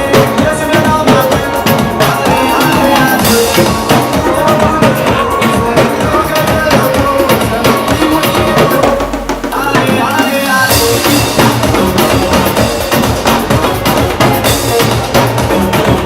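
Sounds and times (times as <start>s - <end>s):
drum ensemble playing fast rhythm: 0.0s - 16.0s
melody line: 1.3s - 16.0s.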